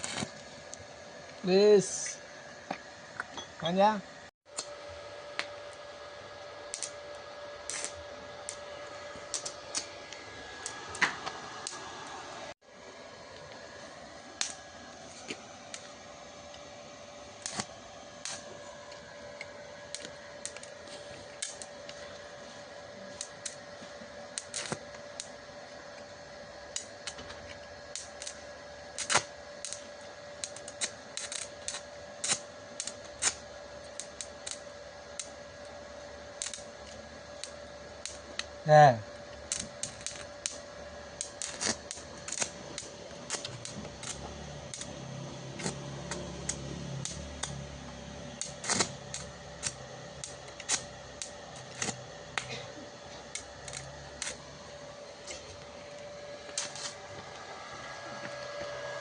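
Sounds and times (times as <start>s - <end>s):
welder high hum: 0.0s - 59.0s
welding arc crackling: 0.0s - 59.0s.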